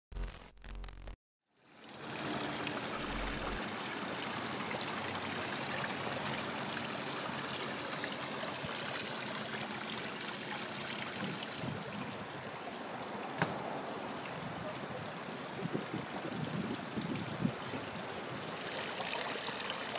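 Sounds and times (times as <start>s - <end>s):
fountain splashing: 1.6s - 19.9s.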